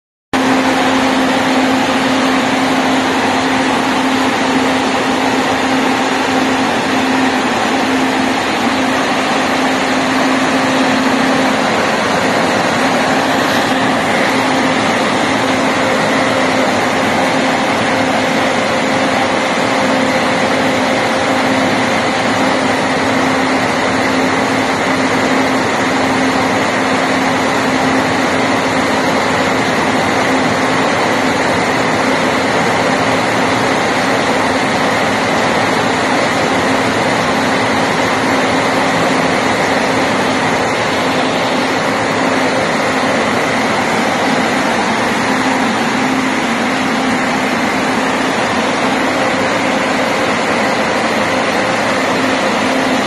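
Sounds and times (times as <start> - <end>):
grain dryer fans rushing: 0.4 - 53.0.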